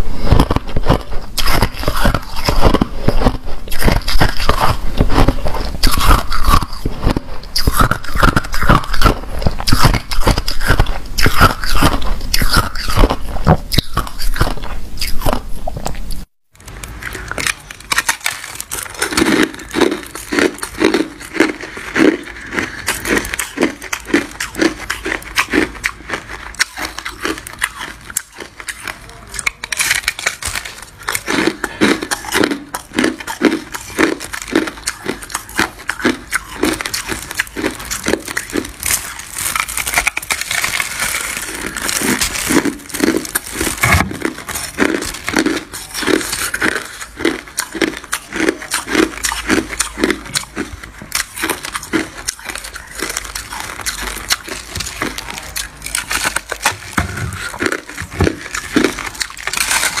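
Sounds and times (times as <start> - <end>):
crunching ice in mouth: 0.0 - 60.0.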